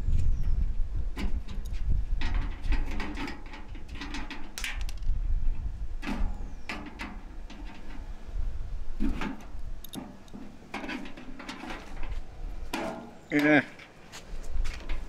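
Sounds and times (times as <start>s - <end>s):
sheet metal knocks and scrapes: 1.1s - 8.2s, 8.9s - 14.0s.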